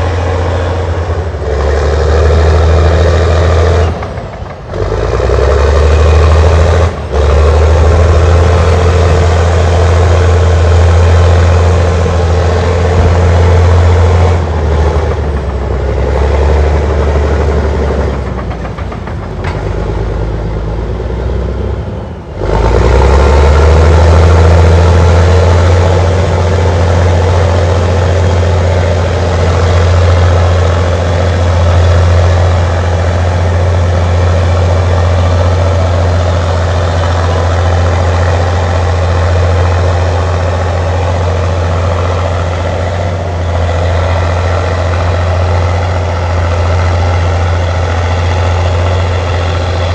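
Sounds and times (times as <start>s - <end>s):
dozer diesel engine under load: 0.0s - 49.9s.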